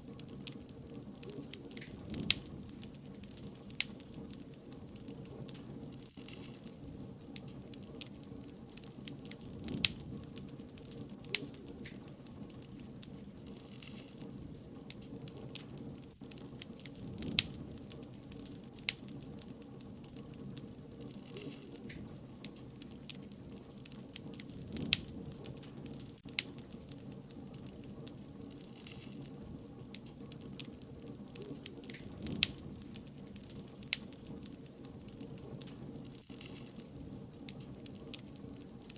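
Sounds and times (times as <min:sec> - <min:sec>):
fire popping: 0:00.0 - 0:38.9
low rush of burning: 0:00.0 - 0:38.9
wood fire crackling: 0:00.0 - 0:38.9.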